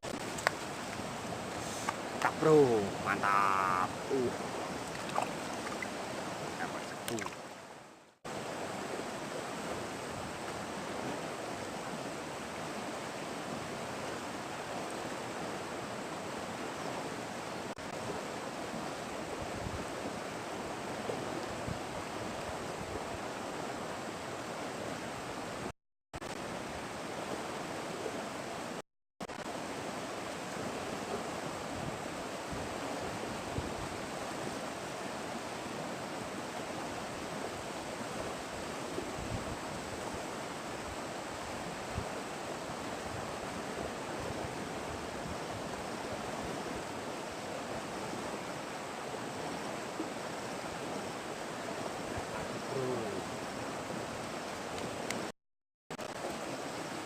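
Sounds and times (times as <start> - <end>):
river water rushing: 0.0 - 25.7, 26.3 - 55.3, 56.0 - 57.0.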